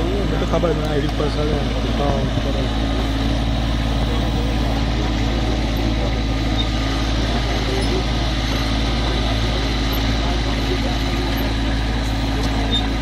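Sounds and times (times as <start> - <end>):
backhoe hydraulics digging: 0.0 - 13.0
diesel tractor engine running: 0.0 - 13.0.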